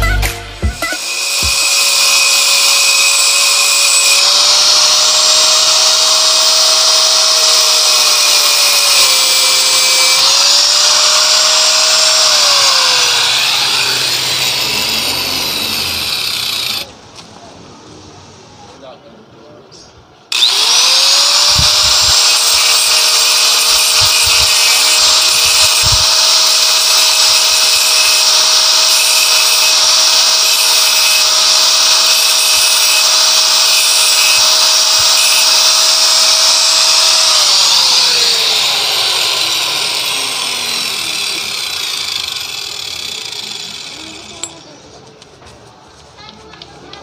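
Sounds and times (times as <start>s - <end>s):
angle grinder cutting steel pipe: 0.6s - 16.9s, 20.3s - 44.7s.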